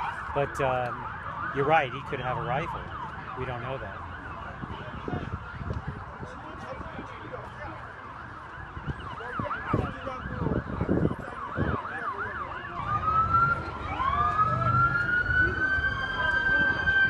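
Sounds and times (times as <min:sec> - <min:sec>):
police siren yelp: 0:00.0 - 0:17.0
police sirens wailing: 0:00.0 - 0:17.0.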